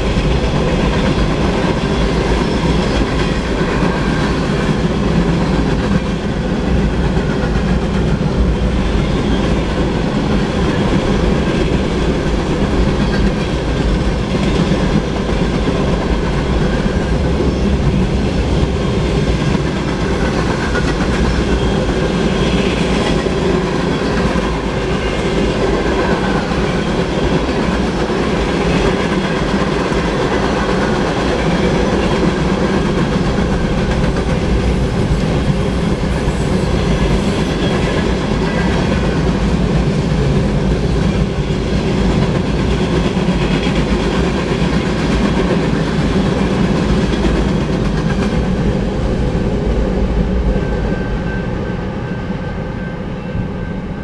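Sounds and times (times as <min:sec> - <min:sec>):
steel wheels on rail: 0:00.0 - 0:54.0.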